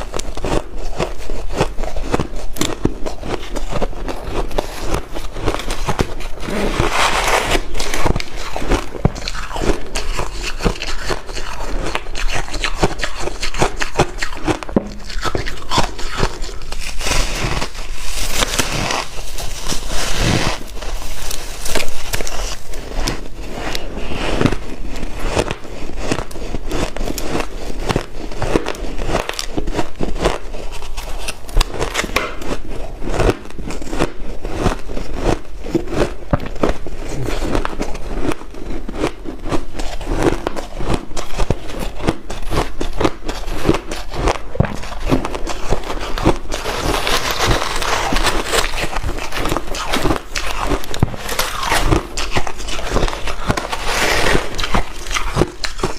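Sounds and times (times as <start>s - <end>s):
person crunching ice: 0.0s - 55.9s.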